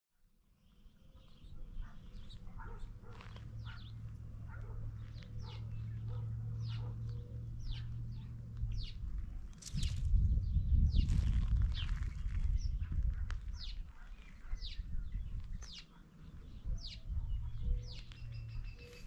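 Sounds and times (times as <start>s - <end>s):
small songbirds chirping: 0.5s - 19.0s.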